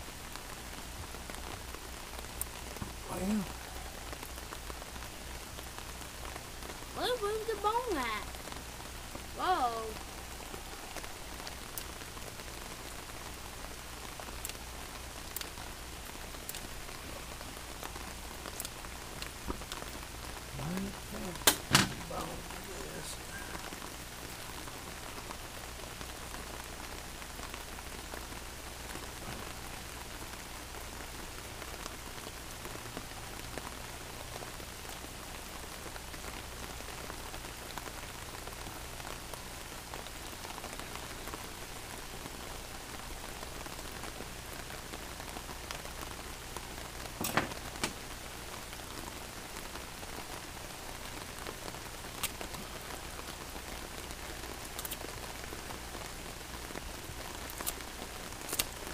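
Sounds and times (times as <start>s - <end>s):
rain on an umbrella: 0.0s - 58.9s.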